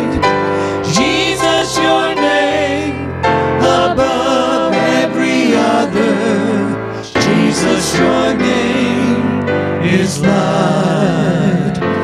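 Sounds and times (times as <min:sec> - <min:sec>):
group singing gospel in harmony: 0:00.0 - 0:12.0
instrumental accompaniment: 0:00.0 - 0:12.0.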